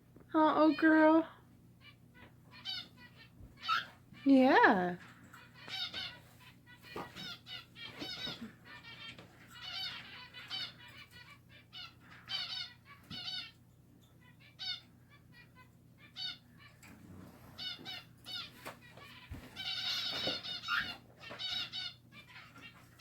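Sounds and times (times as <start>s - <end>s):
finches chirping: 1.8s - 23.0s.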